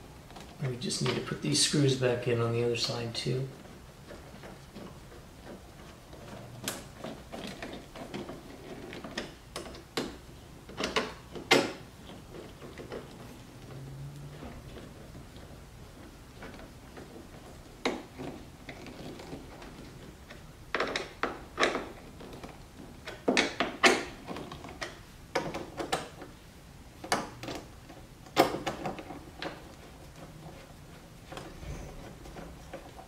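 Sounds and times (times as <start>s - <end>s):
plastic parts clicking and knocking: 3.6s - 13.4s, 14.4s - 33.0s.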